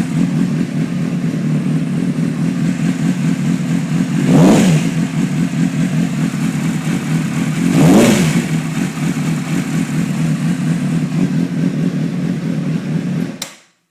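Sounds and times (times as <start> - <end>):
motorcycle engine idling: 0.0 - 13.4.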